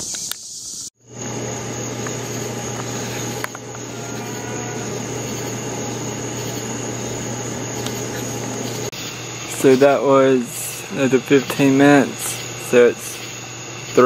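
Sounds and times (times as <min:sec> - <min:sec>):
even hiss: 0:00.0 - 0:14.0
high insect trill: 0:00.0 - 0:14.0
low steady hum: 0:01.1 - 0:14.0.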